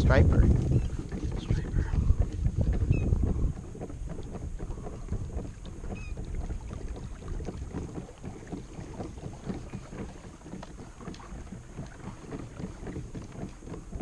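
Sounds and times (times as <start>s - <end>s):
water lapping against kayak hull: 0.0s - 14.0s
wind rumble on microphone: 0.0s - 14.0s
knocks on kayak hull: 0.2s - 14.0s.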